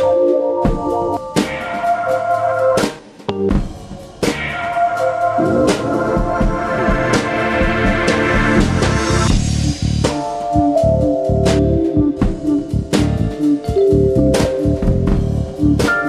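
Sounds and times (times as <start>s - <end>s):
music with drum beat: 0.0s - 16.0s.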